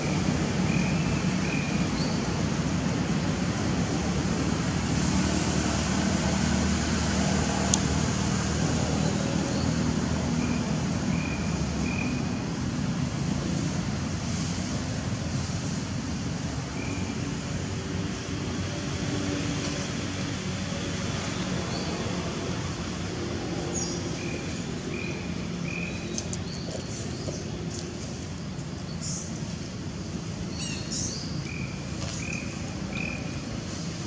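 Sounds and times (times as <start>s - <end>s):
rushing outdoor noise: 0.0s - 34.0s.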